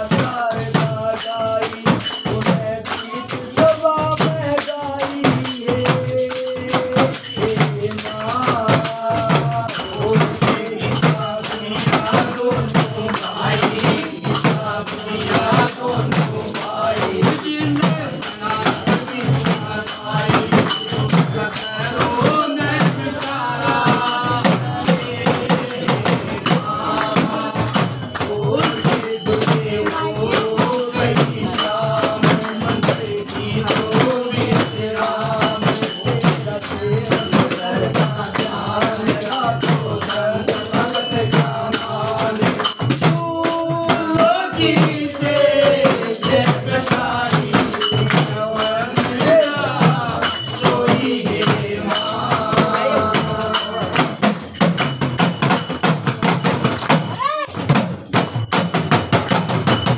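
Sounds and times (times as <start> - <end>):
rhythmic percussion: 0.0 - 59.9
voices singing devotional song: 0.0 - 59.9.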